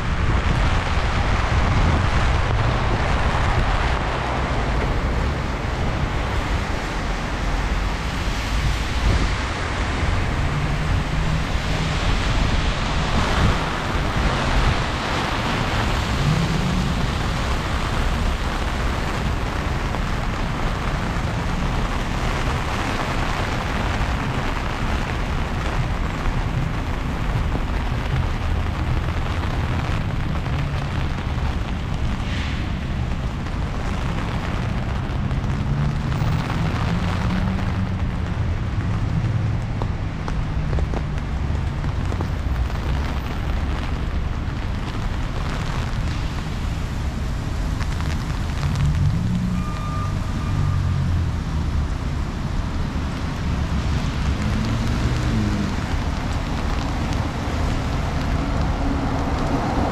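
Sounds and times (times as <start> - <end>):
heavy rain hissing: 0.0 - 59.9
wind rumble on microphone: 0.0 - 59.9.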